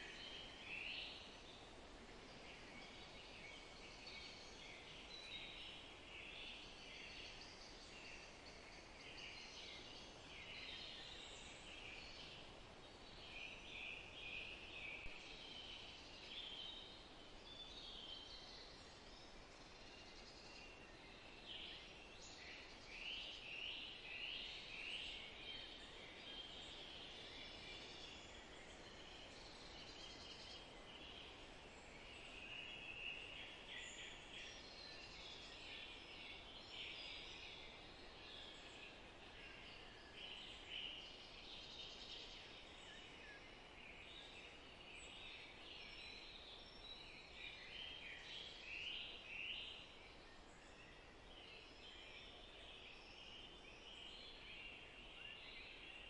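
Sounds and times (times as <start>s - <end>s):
outdoor ambience hiss: 0.0s - 56.0s
small birds singing and chirping: 0.0s - 56.0s.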